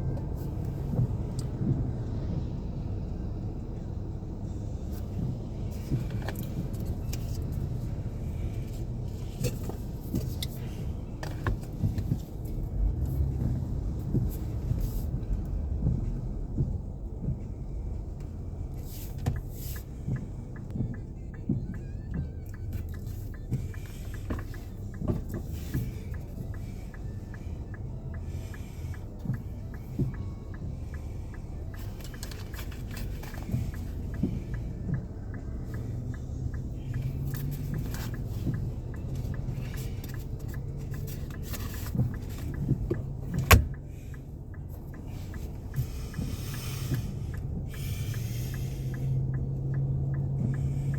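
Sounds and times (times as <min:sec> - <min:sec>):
engine and road rumble: 0:00.0 - 0:50.9
light ticks: 0:00.1 - 0:02.5, 0:03.8 - 0:50.9.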